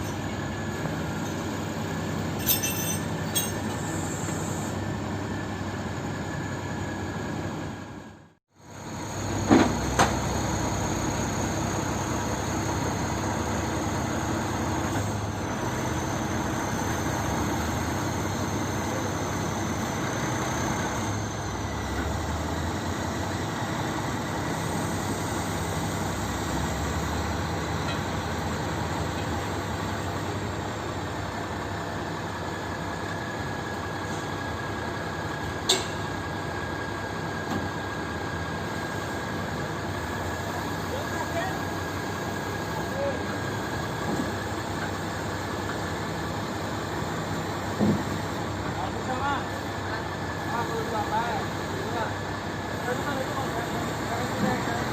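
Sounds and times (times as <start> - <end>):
truck diesel engine running: 0.0 - 54.9.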